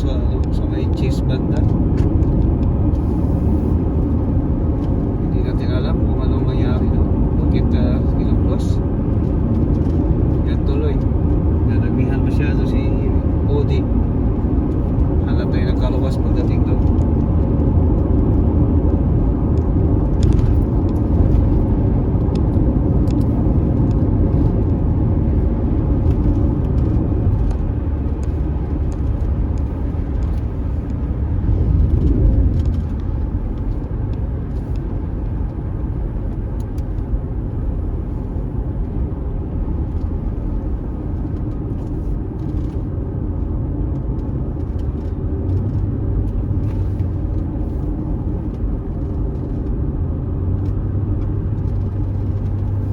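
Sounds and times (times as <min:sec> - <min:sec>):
car tyre and engine rumble: 0:00.0 - 0:52.9.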